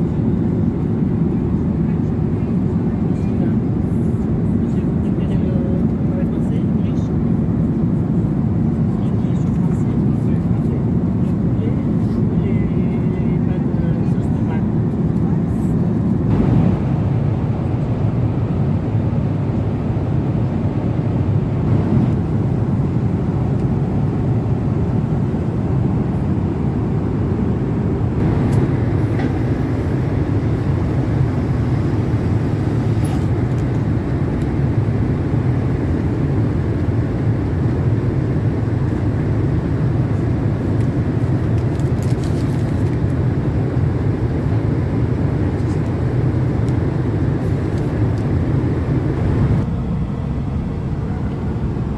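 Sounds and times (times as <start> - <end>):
airliner cabin engine roar: 0.0 - 51.9.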